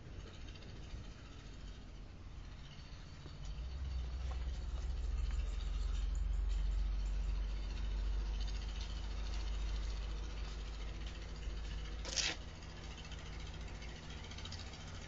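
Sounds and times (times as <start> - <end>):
diesel generator running: 0.0 - 15.0.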